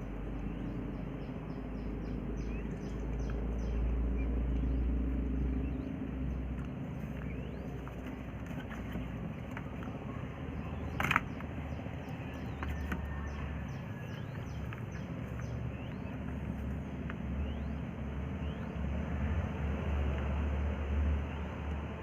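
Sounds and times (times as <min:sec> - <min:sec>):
quail chicks peeping: 0:00.0 - 0:18.8
steady low rumble: 0:00.0 - 0:22.0.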